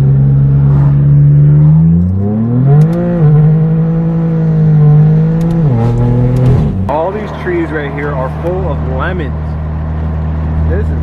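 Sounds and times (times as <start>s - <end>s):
car engine accelerating loudly: 0.0s - 11.0s.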